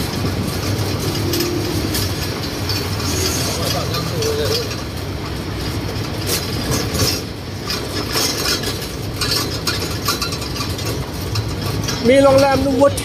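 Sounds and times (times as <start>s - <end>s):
engine and road rumble: 0.0s - 13.0s
metal fittings clinking and rattling: 0.0s - 13.0s.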